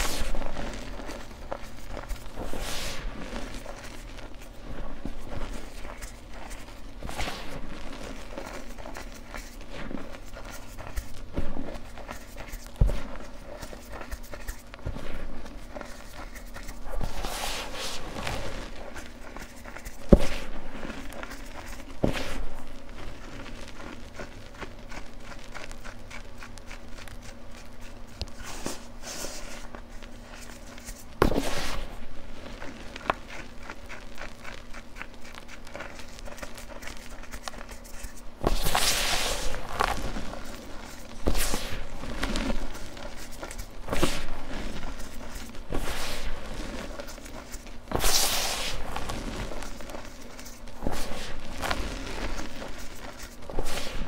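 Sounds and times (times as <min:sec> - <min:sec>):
hands crushing chalk powder: 0:00.0 - 0:54.0.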